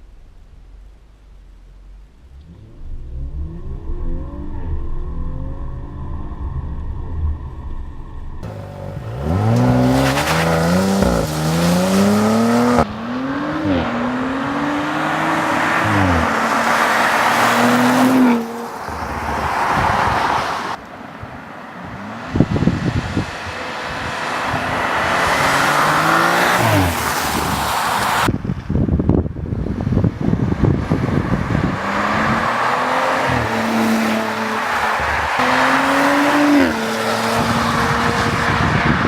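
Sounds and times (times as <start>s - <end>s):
car engine accelerating hard: 2.2s - 20.8s, 21.8s - 28.3s, 30.4s - 39.0s.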